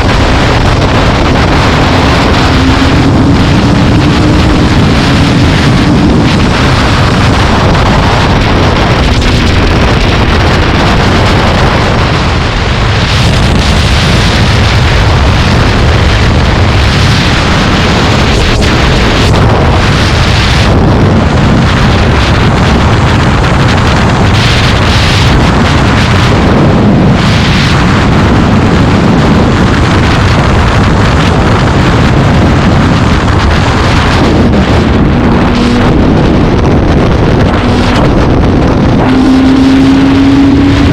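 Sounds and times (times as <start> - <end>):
moving vehicle rumble: 0.0 - 40.9
wind buffeting microphone: 0.0 - 40.9.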